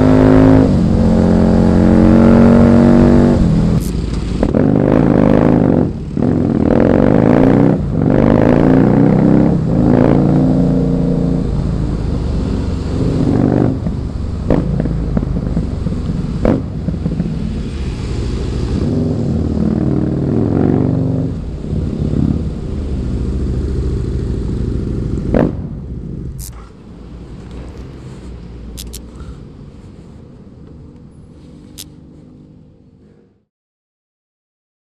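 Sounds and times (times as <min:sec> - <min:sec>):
motorcycle engine accelerating: 0:00.0 - 0:29.3.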